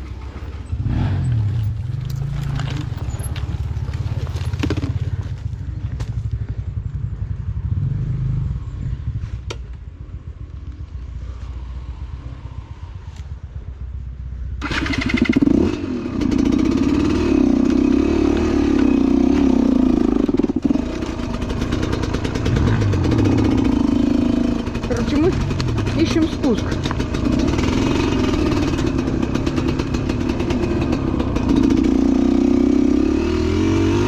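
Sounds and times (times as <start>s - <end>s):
motorcycle engine revving: 0.0s - 13.4s, 14.5s - 34.0s.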